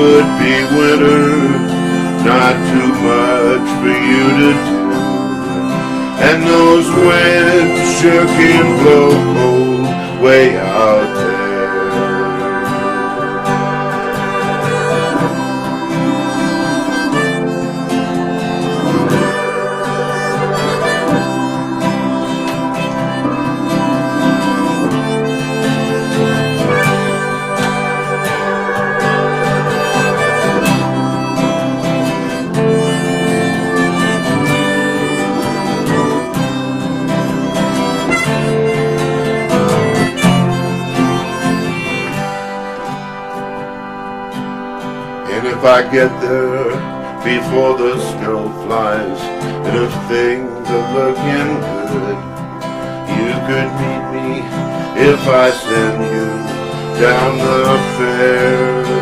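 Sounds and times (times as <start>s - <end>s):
guitar accompaniment: 0.0s - 59.0s
harmonica melody: 0.0s - 59.0s.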